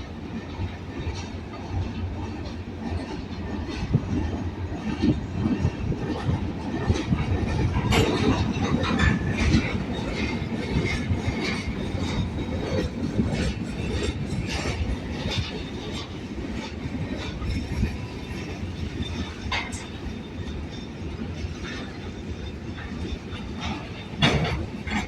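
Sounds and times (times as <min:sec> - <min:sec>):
freight train rumbling past: 0:00.0 - 0:25.0
wheels clicking over rail joints: 0:00.2 - 0:25.0.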